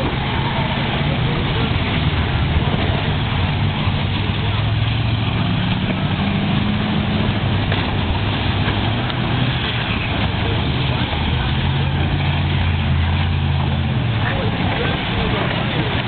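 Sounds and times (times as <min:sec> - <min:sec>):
constant noisy wash: 0:00.0 - 0:16.0
indistinct voices: 0:00.0 - 0:16.0
race car engines droning: 0:00.0 - 0:16.0.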